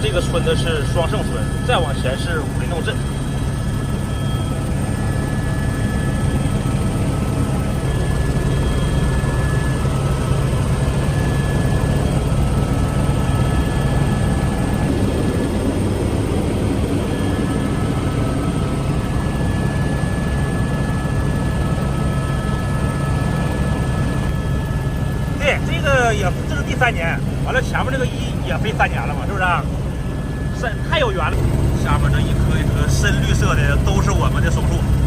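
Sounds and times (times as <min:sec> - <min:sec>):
helicopter rotor and engine noise: 0:00.0 - 0:35.0
high whine: 0:00.0 - 0:35.0.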